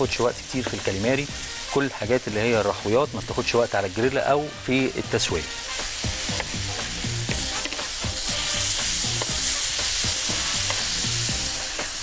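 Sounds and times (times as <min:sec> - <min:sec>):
calamari sizzling on grill: 0:00.0 - 0:12.0.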